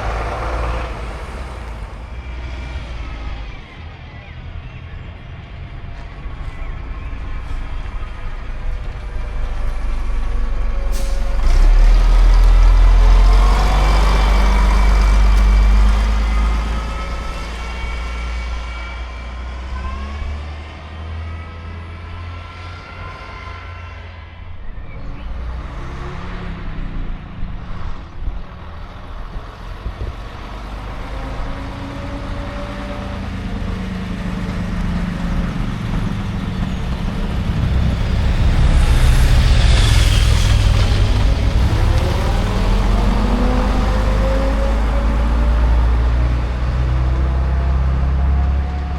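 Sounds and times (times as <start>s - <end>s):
diesel bus engines accelerating: 0.0s - 48.9s.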